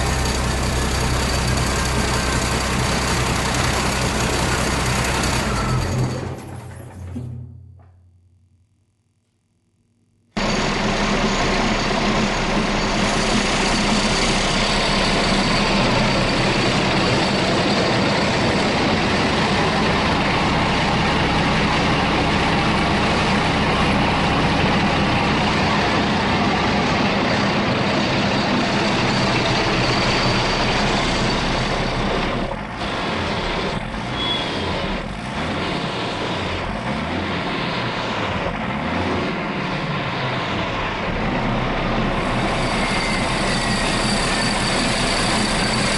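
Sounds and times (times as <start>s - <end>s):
diesel engine running: 0.0s - 6.8s, 10.4s - 45.9s.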